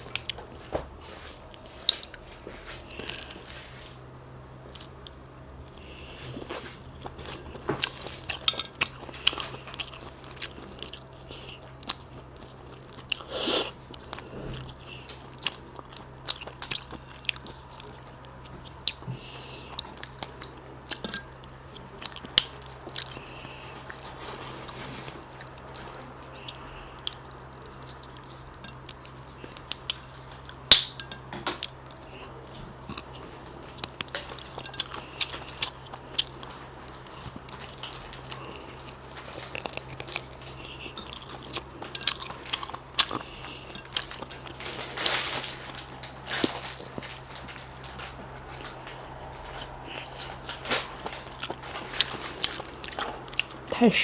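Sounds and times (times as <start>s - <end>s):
biting and chewing shellfish: 0.0s - 0.6s, 1.5s - 53.8s
steady low hum: 0.0s - 54.0s.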